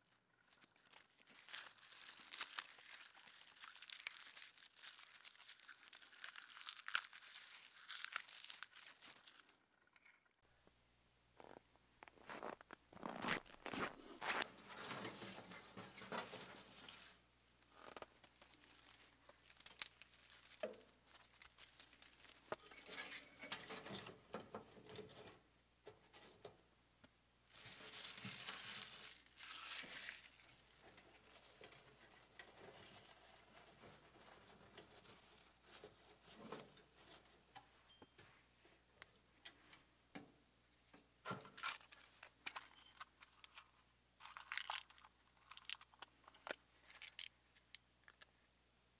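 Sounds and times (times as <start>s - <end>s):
kindling rustling and crinkling: 0.0s - 10.4s, 11.4s - 26.6s, 27.5s - 37.6s, 40.7s - 48.3s.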